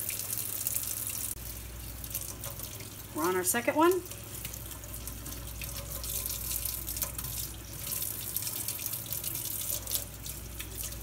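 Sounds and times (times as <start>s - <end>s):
faucet running into steel sink: 0.0s - 11.0s.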